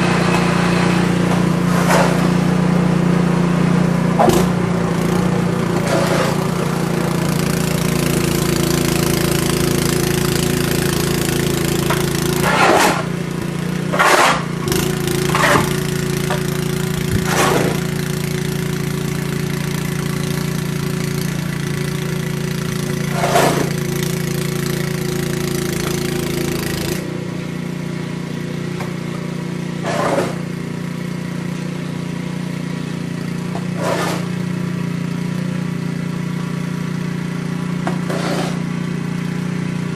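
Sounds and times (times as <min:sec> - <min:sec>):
engine rumbling: 0:00.0 - 0:39.9.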